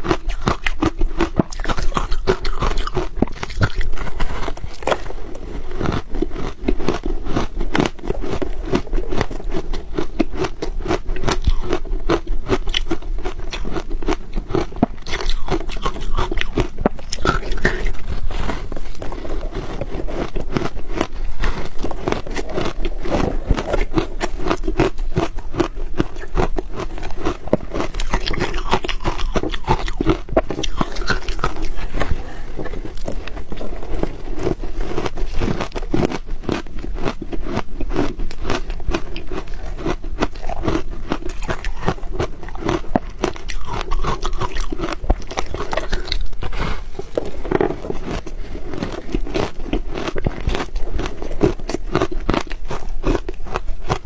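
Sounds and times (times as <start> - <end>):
chewing crunchy ice: 0.0 - 54.0.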